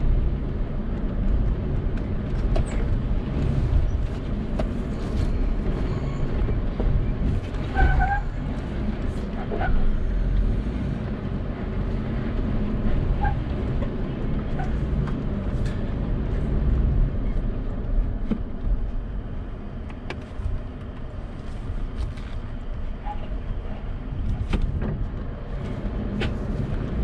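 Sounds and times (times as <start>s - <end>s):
engine rumble from inside cab: 0.0s - 27.0s.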